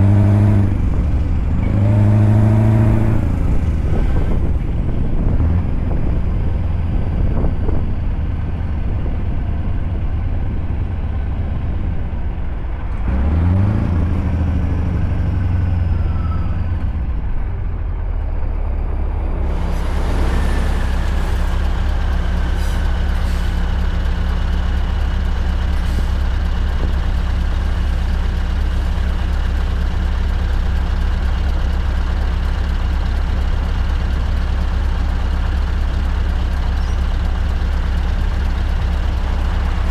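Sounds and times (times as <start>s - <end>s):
truck engine running and revving: 0.0s - 39.9s.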